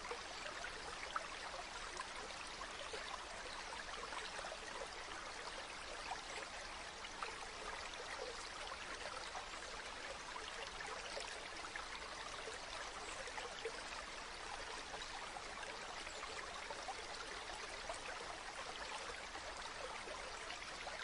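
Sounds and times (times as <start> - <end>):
stream babbling over stones: 0.0 - 21.0.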